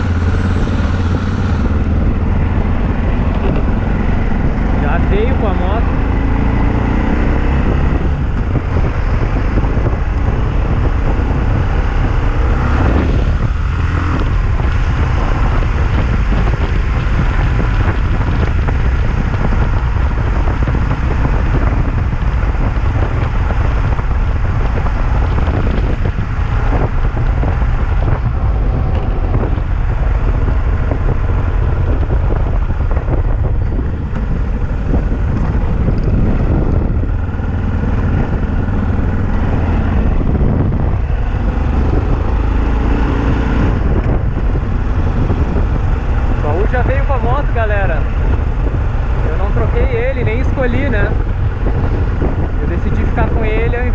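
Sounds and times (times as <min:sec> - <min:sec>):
motorcycle engine running: 0:00.0 - 0:53.9
wind noise: 0:00.0 - 0:53.9.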